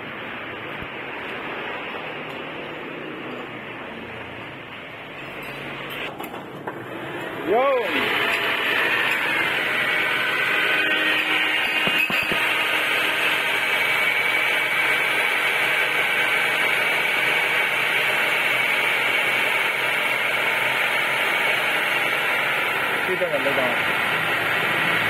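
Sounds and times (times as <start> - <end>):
power steering pump whine: 4.4 - 25.0.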